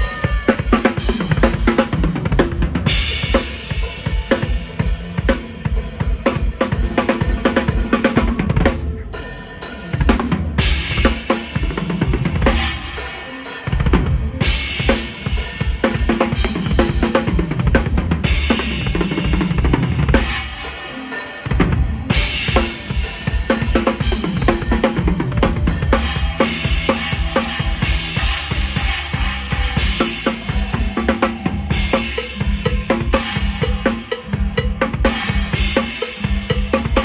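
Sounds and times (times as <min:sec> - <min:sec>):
band playing: 0:00.0 - 0:37.0.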